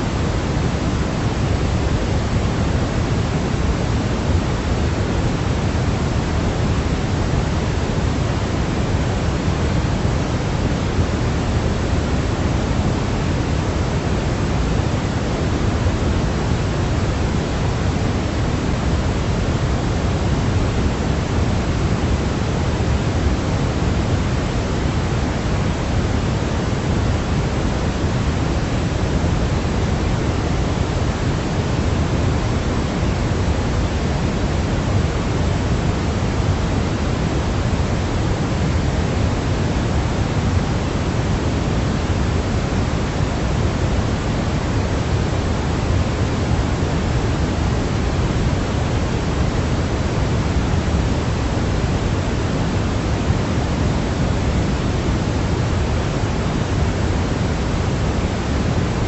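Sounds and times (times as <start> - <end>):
low white noise hiss: 0.0 - 59.0.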